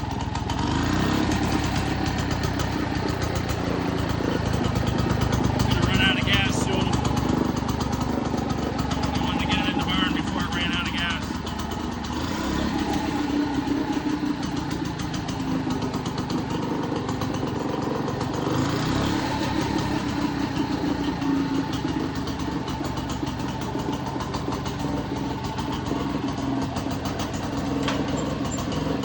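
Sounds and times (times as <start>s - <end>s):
small gasoline engine running: 0.0s - 29.0s.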